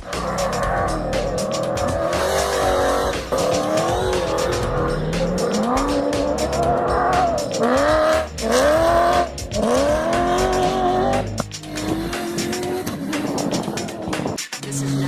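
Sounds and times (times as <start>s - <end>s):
rally car engine accelerating: 0.0s - 14.3s.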